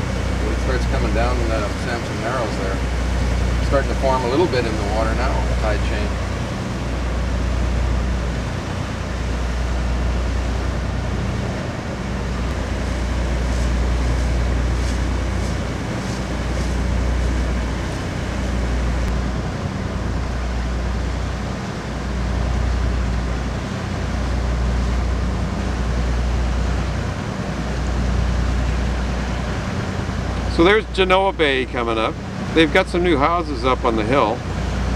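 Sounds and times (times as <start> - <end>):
motorboat engine droning: 0.0 - 34.9
water noise: 0.0 - 34.9
wind: 0.0 - 34.9.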